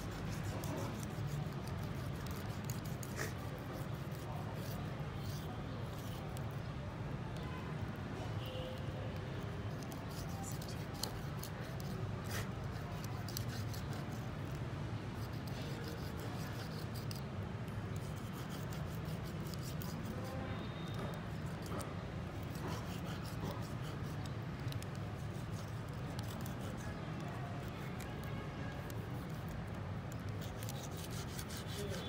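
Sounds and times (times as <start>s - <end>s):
knife clicking and scraping: 0.0s - 6.6s, 9.7s - 14.6s, 15.2s - 20.3s, 21.2s - 32.0s.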